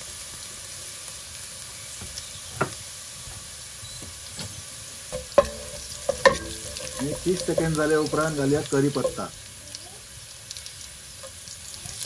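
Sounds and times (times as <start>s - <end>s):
hot oil sizzling in a pot: 0.0s - 12.0s.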